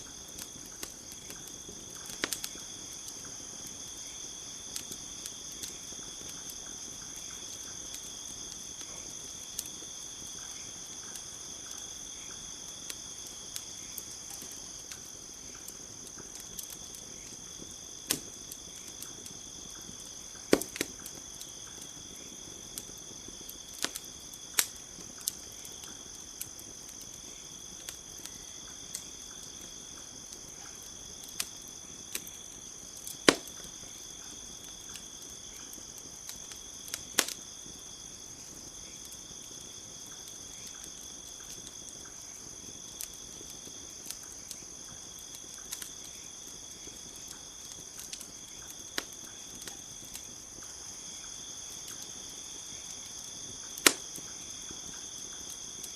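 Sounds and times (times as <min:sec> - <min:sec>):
campfire crackling and popping: 0:00.0 - 0:55.9
crickets chirring: 0:00.0 - 0:55.9.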